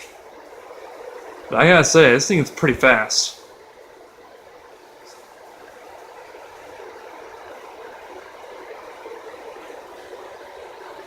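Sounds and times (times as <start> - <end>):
ceiling fan running: 0.0 - 11.0.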